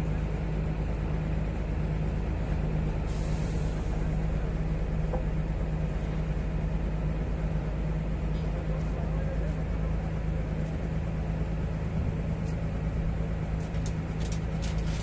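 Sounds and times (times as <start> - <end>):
crane engine humming: 0.0 - 15.0.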